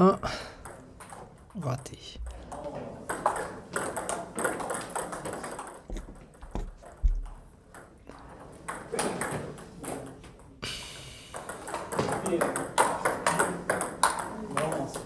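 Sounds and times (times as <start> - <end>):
table tennis balls bouncing: 0.0 - 15.0.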